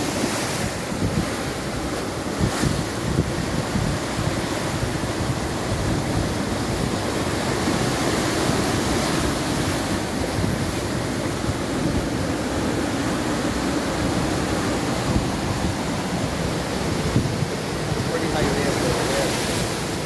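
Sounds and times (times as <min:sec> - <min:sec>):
sea waves breaking over rocks: 0:00.0 - 0:20.0.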